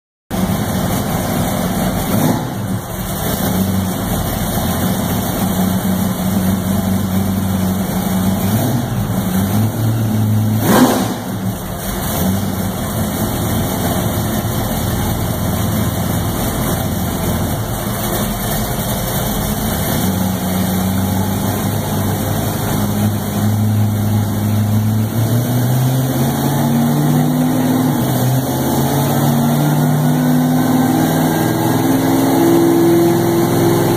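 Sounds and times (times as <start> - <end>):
car engine on dyno: 0.3 - 33.9.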